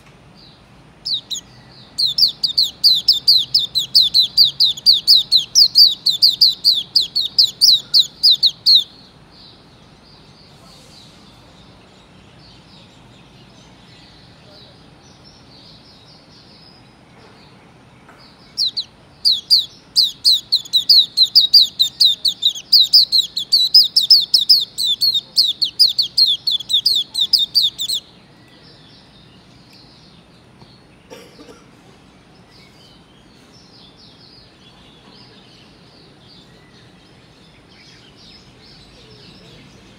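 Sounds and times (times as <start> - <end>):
faint bird chirping: 0.0 - 39.9.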